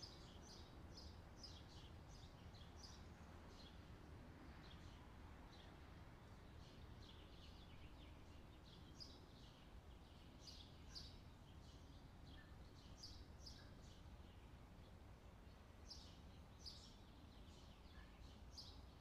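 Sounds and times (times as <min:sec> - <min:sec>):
faint small birds chirping: 0:00.0 - 0:19.0.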